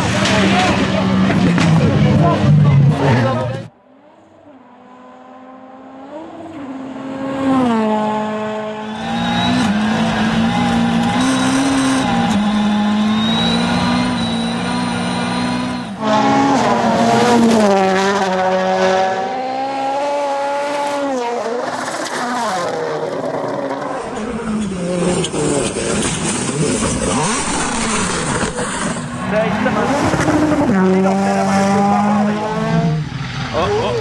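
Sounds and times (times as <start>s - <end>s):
rally car engines at high revs: 0.0s - 34.0s.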